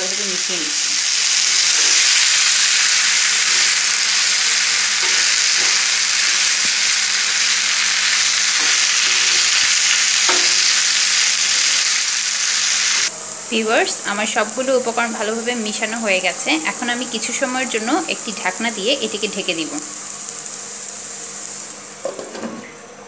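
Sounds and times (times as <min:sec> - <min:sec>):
food sizzling in hot oil: 0:00.0 - 0:22.6.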